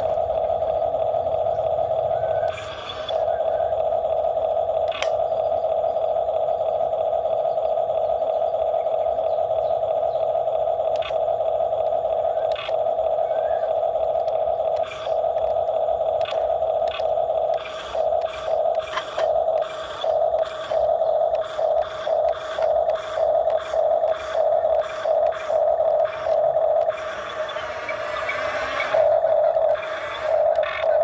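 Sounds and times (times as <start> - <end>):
excavator humming: 0.0 - 31.0.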